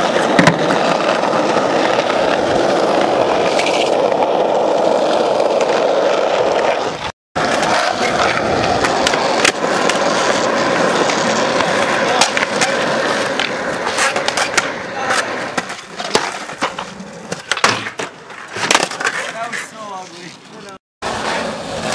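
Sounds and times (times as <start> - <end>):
skateboard clacks: 0.0 - 21.9
skateboard wheels rolling on asphalt: 0.0 - 21.9.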